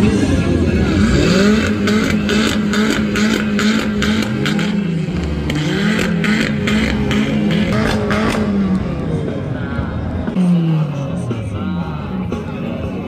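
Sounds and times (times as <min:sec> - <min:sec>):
car engine revving: 0:00.0 - 0:13.0
exhaust crackle: 0:00.6 - 0:12.2.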